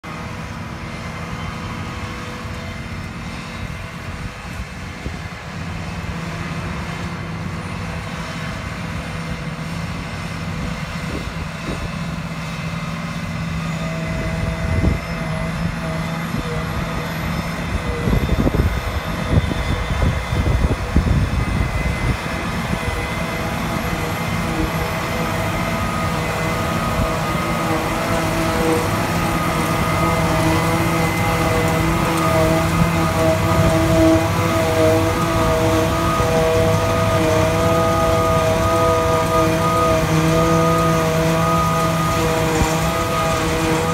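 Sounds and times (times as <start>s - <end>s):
tractor and harvester drone: 0.0s - 43.9s.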